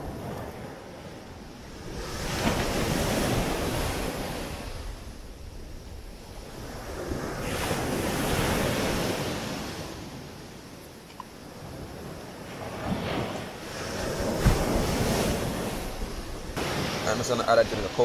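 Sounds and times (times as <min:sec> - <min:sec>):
wind buffeting microphone: 0:00.0 - 0:10.8, 0:11.4 - 0:18.0
ocean surf breaking on beach: 0:00.0 - 0:18.0.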